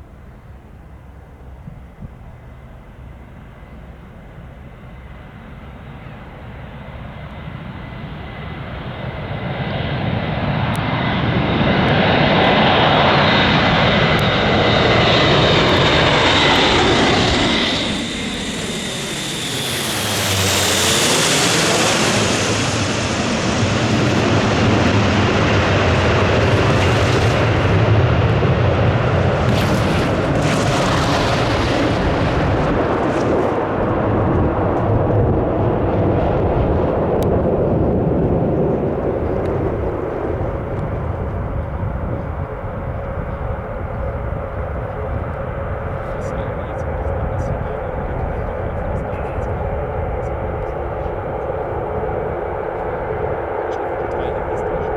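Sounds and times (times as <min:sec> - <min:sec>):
turboprop aircraft passing: 0:00.0 - 0:54.9.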